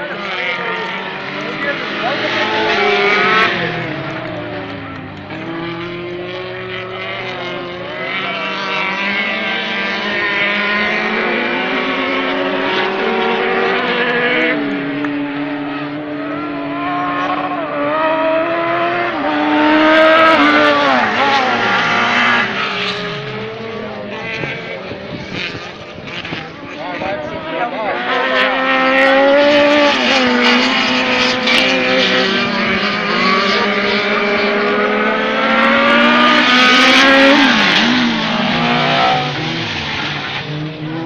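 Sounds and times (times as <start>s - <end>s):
buggy engines revving: 0.0s - 41.0s.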